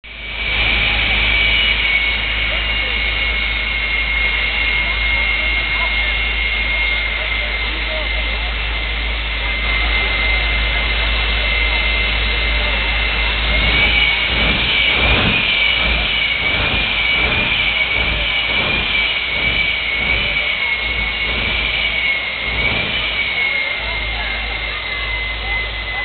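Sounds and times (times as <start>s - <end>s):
jet engine high-pitched whine: 0.0s - 26.0s
jet engine rushing noise: 0.1s - 26.0s.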